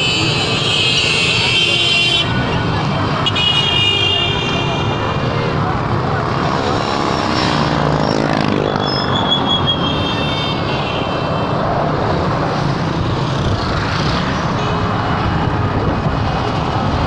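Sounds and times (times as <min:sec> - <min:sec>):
motor vehicle noise: 0:00.0 - 0:17.0.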